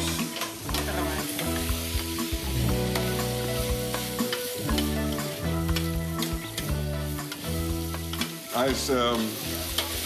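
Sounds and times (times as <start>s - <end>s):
background music: 0.0s - 10.0s
food sizzling in frying pan: 0.0s - 10.0s.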